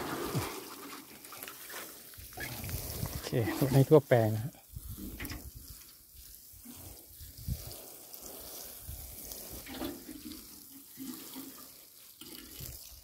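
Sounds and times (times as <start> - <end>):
water sprinkling onto soil: 0.0 - 13.0.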